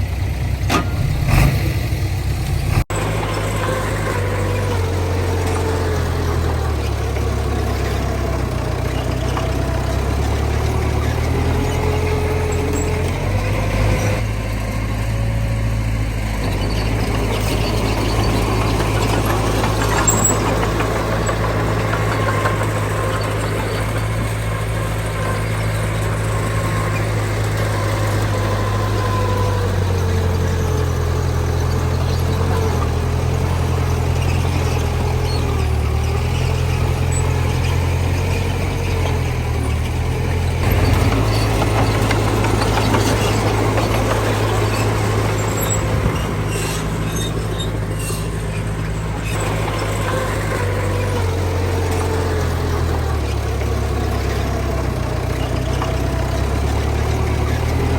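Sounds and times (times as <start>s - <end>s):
diesel machinery engine drone: 0.0s - 57.9s.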